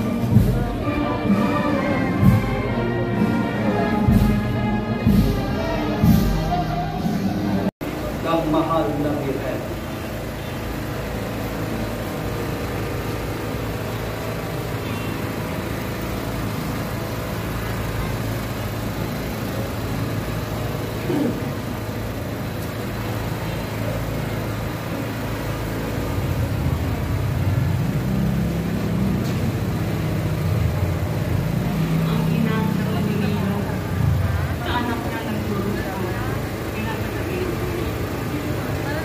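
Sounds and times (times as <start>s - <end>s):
crowd murmuring: 0.0s - 39.0s
low engine rumble: 0.0s - 39.0s.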